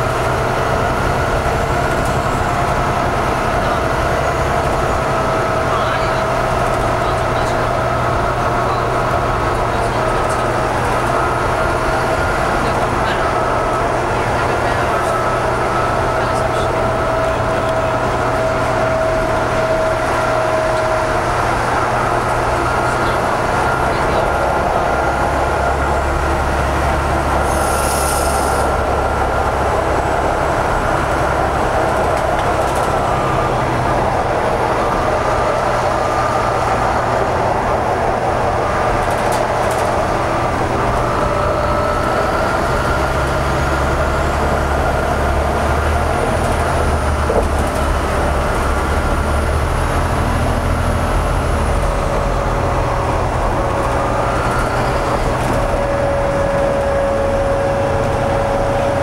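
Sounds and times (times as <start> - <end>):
bus running noise: 0.0 - 59.0.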